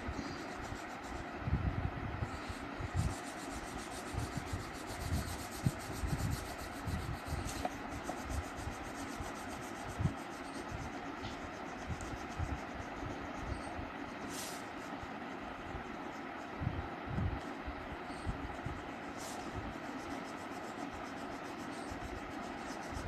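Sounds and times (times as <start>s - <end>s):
crayon rubbing on paper: 0.0s - 1.4s, 2.2s - 16.6s, 17.5s - 23.0s.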